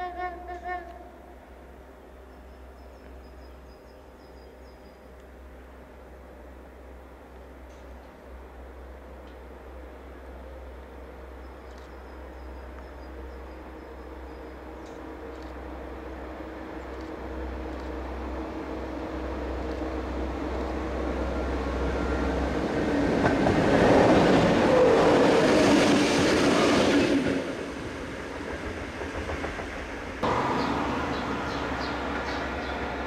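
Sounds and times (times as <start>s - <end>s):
locomotive engine and wheels: 0.0s - 33.0s.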